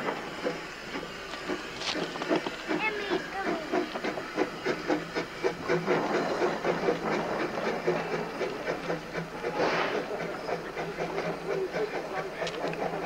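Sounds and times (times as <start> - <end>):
steam hiss: 0.0 - 13.0
steam locomotive puffing: 0.0 - 13.0.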